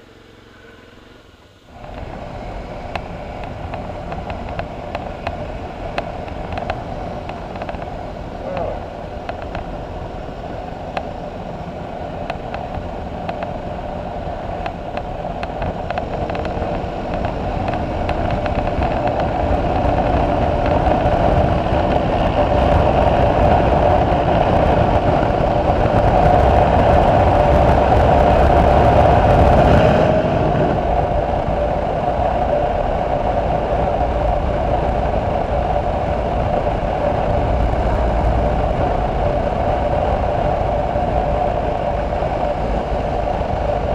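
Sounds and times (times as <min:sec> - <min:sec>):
motorcycle engine running: 0:00.0 - 0:43.9
wind rushing over microphone: 0:00.0 - 0:43.9.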